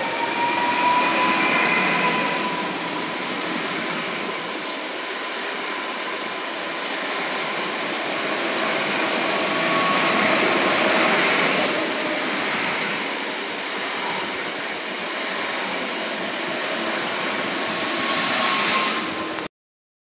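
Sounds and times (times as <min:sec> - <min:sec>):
train wheels rumbling on rail: 0:00.0 - 0:19.5.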